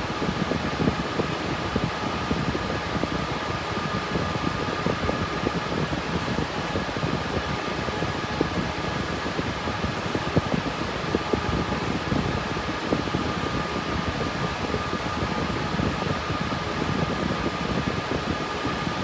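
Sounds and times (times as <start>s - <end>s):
cooling fans rushing hiss: 0.0s - 19.0s.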